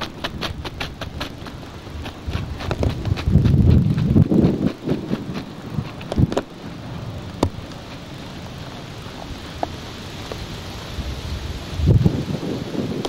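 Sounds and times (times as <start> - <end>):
wind rustling trees: 0.0 - 13.0.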